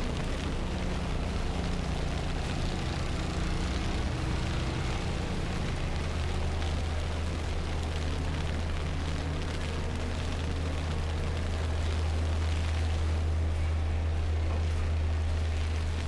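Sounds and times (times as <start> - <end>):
city street noise in snowstorm: 0.0 - 16.0
faint traffic hum: 0.0 - 16.0.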